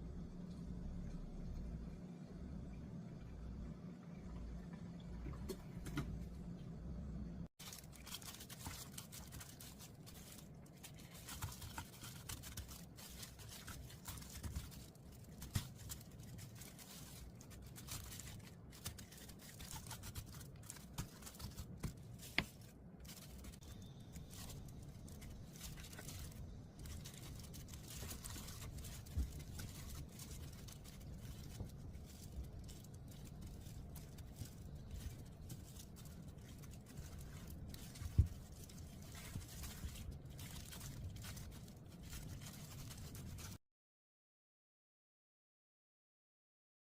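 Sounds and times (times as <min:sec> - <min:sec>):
low room hum: 0:00.0 - 0:43.6.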